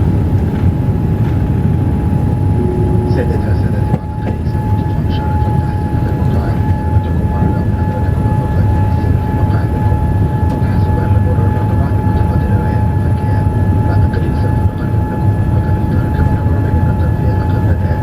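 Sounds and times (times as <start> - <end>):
aircraft cabin engine rumble: 0.0 - 18.0
thin steady whine: 2.0 - 18.0.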